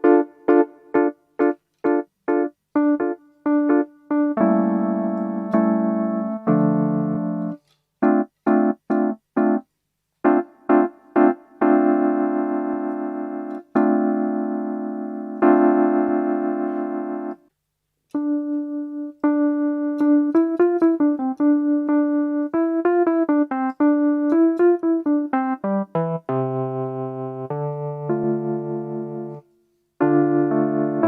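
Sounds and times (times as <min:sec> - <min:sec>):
electric piano chords and melody: 0:00.0 - 0:17.5, 0:18.1 - 0:31.0.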